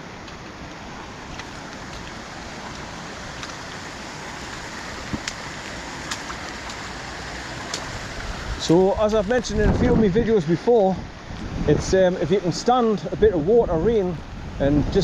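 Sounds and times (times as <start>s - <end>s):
fast-flowing stream rushing: 0.0s - 13.2s.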